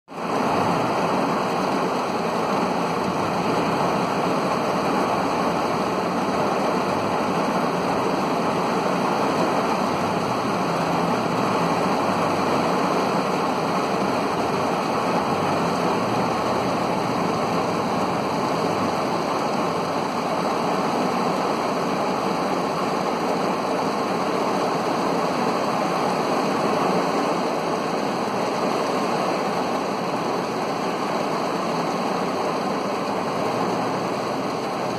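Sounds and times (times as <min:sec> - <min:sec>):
heavy rain on car body: 0:00.1 - 0:34.9.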